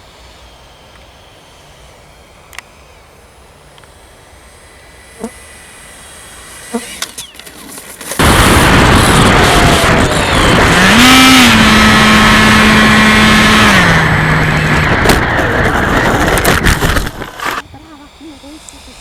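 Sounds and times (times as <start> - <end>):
model jet roaring: 0.0 - 19.0.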